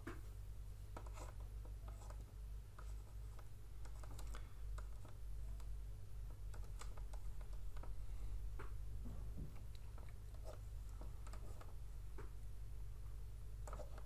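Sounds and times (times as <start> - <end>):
steady low hum: 0.0 - 14.0
stylus tapping and scratching: 0.9 - 8.0, 8.6 - 12.5, 13.6 - 14.0.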